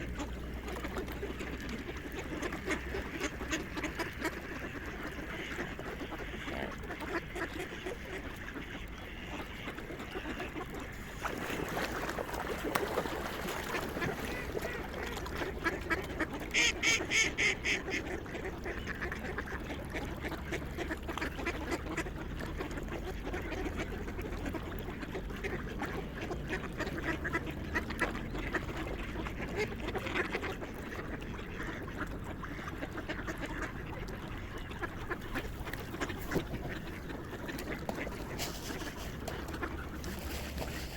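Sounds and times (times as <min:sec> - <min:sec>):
swans and waterfowl calling: 0:00.0 - 0:40.9.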